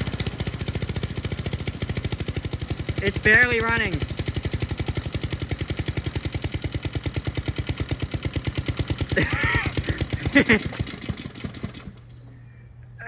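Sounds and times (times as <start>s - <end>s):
lawnmower engine running slowly: 0.0s - 13.0s.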